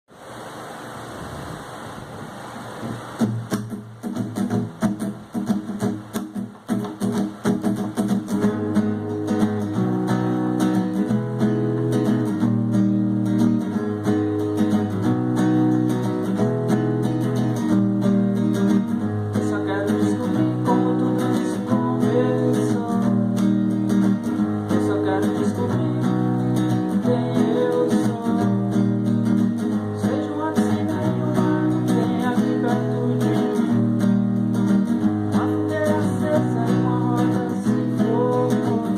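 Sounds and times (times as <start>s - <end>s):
acoustic guitar strumming: 3.1s - 38.9s.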